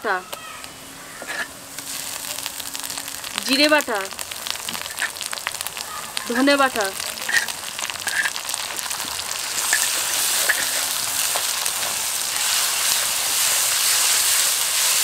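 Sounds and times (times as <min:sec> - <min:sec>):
onions sizzling in hot oil: 0:00.0 - 0:15.0
spatula stirring: 0:01.0 - 0:15.0.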